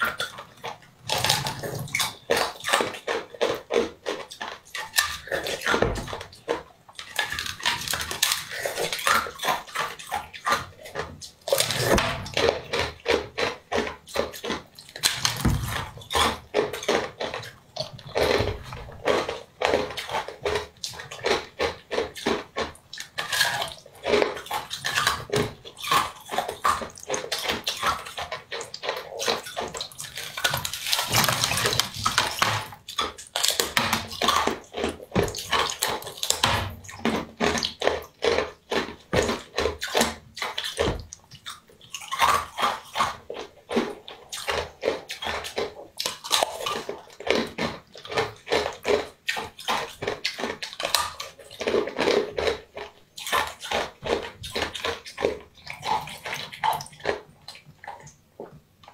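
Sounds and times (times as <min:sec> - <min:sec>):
wet eating sounds: 0:00.0 - 0:58.9.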